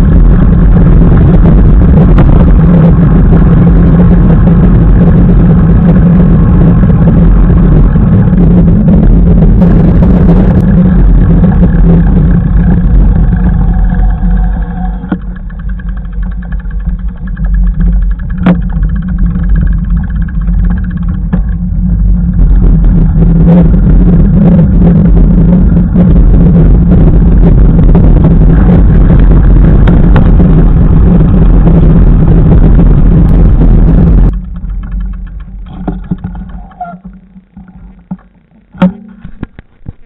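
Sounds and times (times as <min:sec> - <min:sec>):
low rumble of ride and wind: 0:00.0 - 0:40.0.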